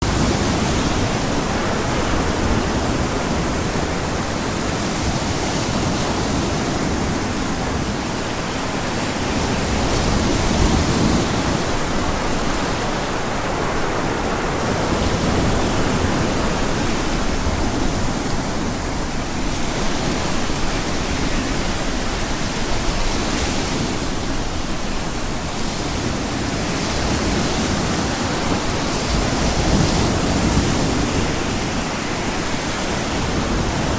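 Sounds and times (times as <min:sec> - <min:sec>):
ocean surf: 0:00.0 - 0:33.9
wind: 0:00.0 - 0:33.9.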